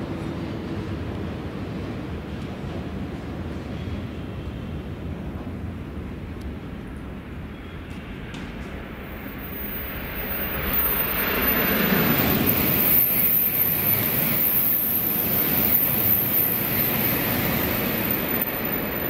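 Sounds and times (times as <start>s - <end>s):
train rushing past: 0.0s - 19.0s.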